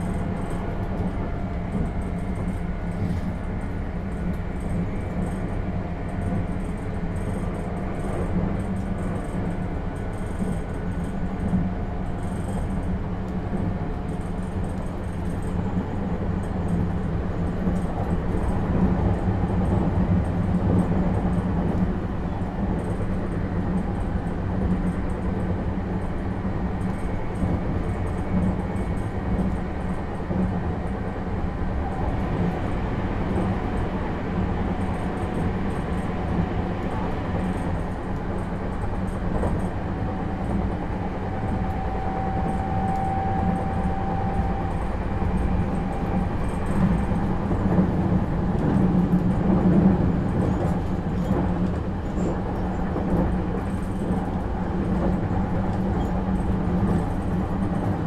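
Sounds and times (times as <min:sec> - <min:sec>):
faint train whine: 0:00.0 - 0:58.0
train wheels rumbling on rail: 0:00.0 - 0:58.0.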